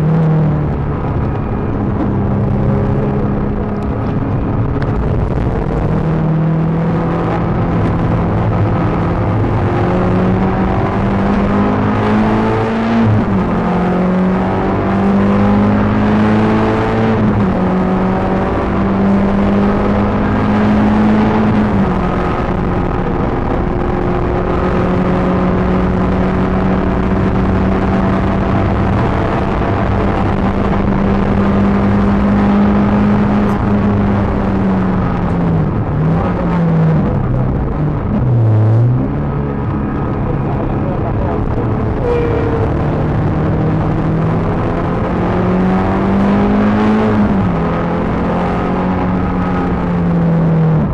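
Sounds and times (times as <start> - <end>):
car engine revving hard: 0.0 - 50.9.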